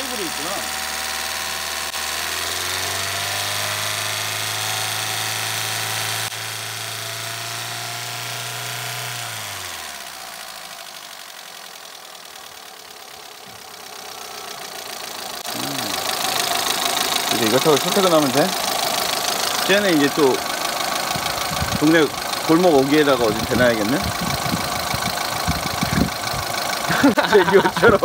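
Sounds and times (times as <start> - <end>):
car engine idling: 0.0 - 28.0
engine whirring: 0.0 - 28.0.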